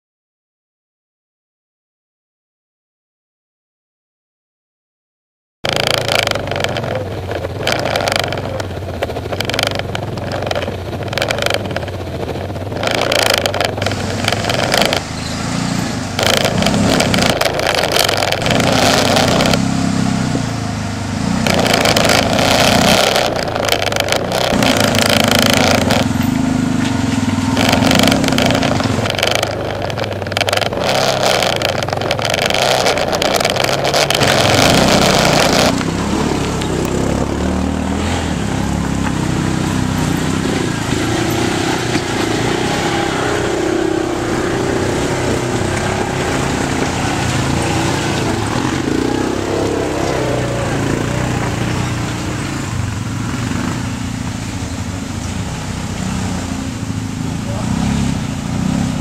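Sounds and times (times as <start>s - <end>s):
off-road vehicle engine revving: 5.6s - 59.0s.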